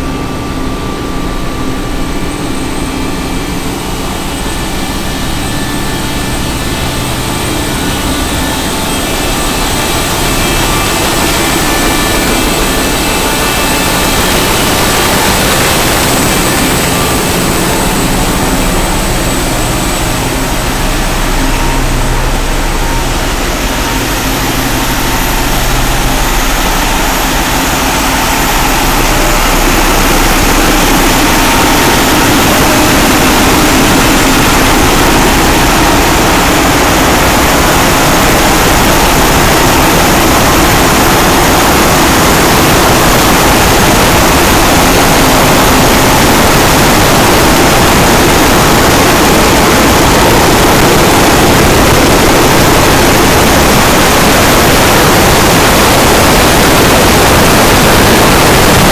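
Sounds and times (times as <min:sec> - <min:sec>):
engine room machinery running: 0:00.0 - 0:58.9.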